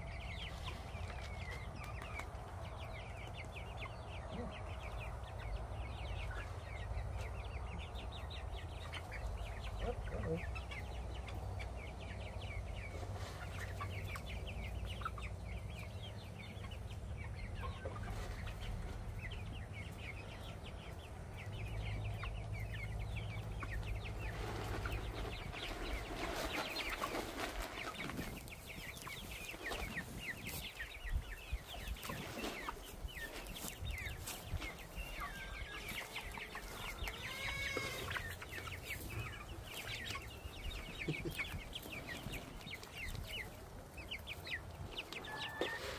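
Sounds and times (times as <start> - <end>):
chicks clucking and peeping: 0.0 - 45.9.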